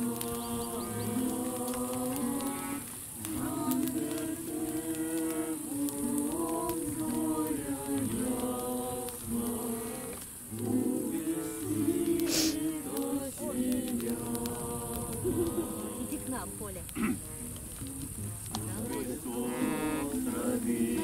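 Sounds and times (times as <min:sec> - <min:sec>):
acoustic guitar strumming: 0:00.0 - 0:12.6, 0:15.5 - 0:21.0
group singing a religious song: 0:00.0 - 0:16.7, 0:18.4 - 0:21.0.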